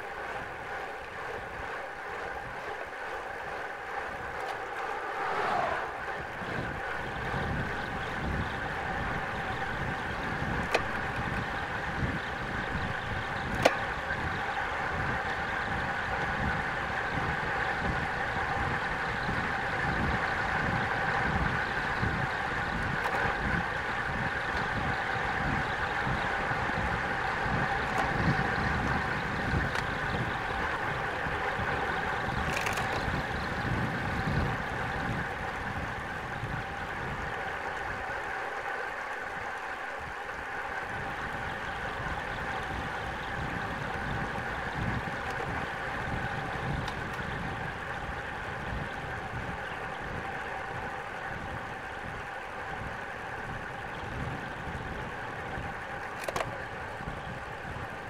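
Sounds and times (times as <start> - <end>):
bike tyres on asphalt: 0.0 - 58.0
wind rushing over microphone: 3.9 - 38.7, 40.0 - 58.0.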